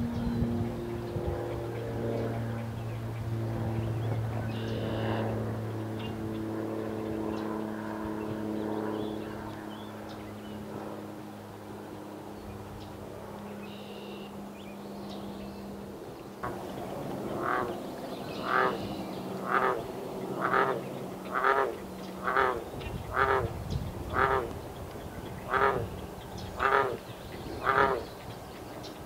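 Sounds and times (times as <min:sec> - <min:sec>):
distant engine drone: 0:00.0 - 0:29.0.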